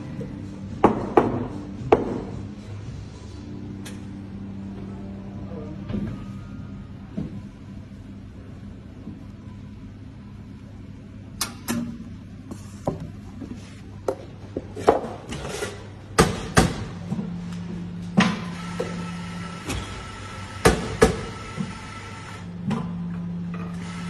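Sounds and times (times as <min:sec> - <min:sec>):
low machine hum: 0:00.0 - 0:24.0
steady mechanical noise: 0:00.0 - 0:24.0.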